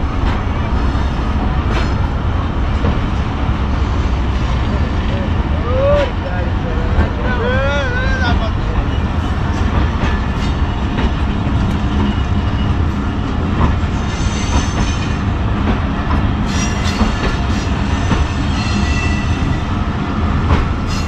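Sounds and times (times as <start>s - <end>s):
train coaches rumbling: 0.0s - 21.0s.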